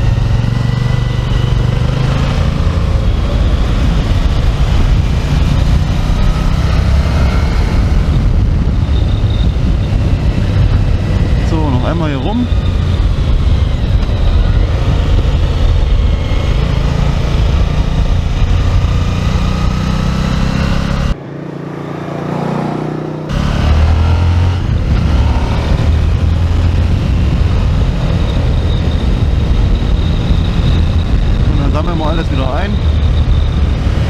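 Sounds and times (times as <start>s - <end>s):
motorcycle engine running: 0.0s - 29.2s.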